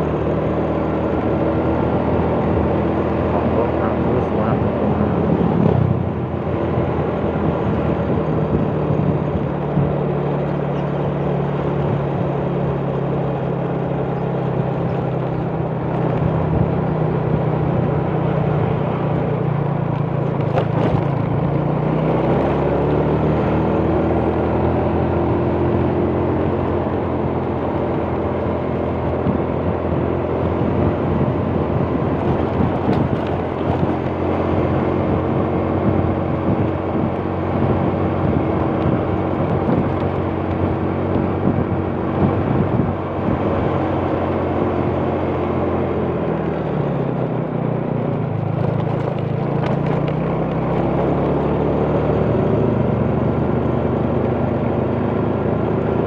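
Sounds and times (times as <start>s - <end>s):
road noise: 0.0s - 56.0s
rushing wind: 0.0s - 56.0s.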